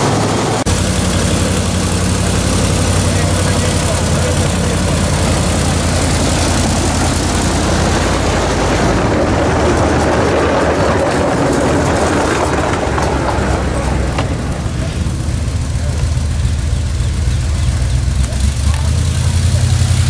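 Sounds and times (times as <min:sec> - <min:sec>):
locomotive engine hum: 0:00.0 - 0:20.0
train cars rolling on rails: 0:00.0 - 0:20.0.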